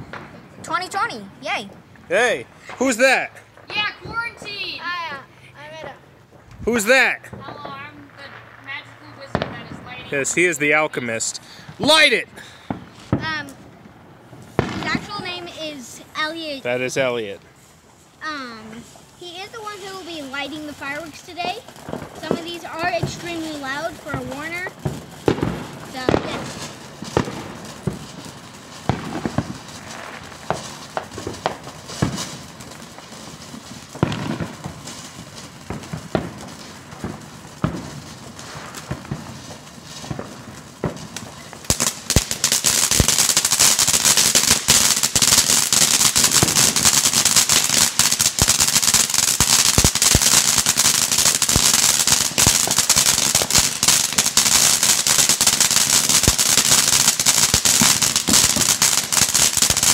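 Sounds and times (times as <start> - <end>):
firework fountain hissing and crackling: 0.0 - 59.9.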